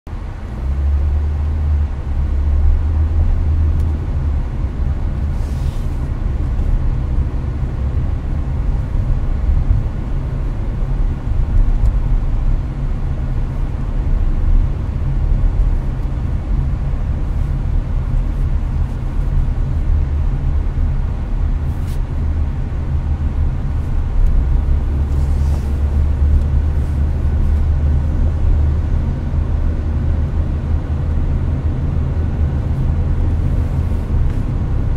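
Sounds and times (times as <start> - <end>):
road and engine rumble: 0.0 - 34.9
air conditioner blowing: 0.2 - 34.9.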